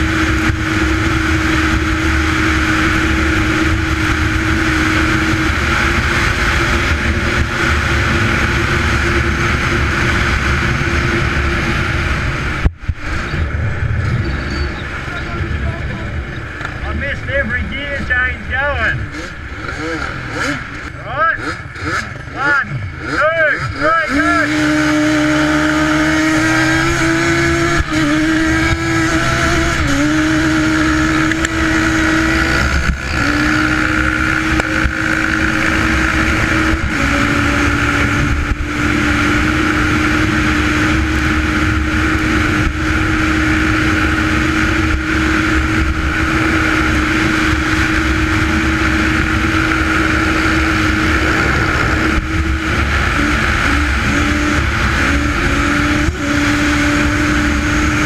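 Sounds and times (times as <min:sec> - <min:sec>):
wind rush on microphone: 0:00.0 - 0:18.3, 0:24.5 - 0:58.0
two-stroke engine at full throttle: 0:00.0 - 0:58.0.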